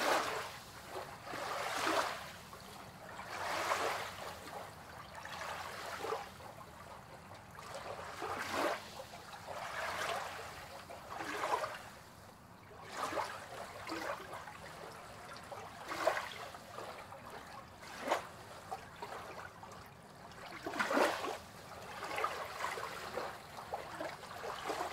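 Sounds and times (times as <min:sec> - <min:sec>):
waves splashing against pier: 0:00.0 - 0:24.9.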